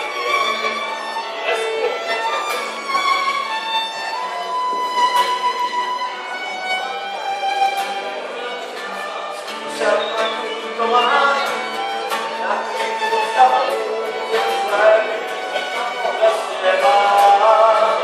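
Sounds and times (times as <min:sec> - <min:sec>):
fiddles: 0:00.0 - 0:18.0
strummed guitar: 0:00.0 - 0:18.0.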